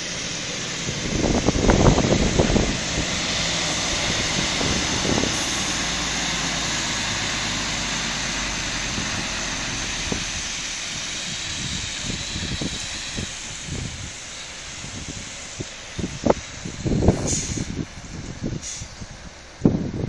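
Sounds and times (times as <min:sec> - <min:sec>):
truck diesel engine droning: 0:00.0 - 0:20.0.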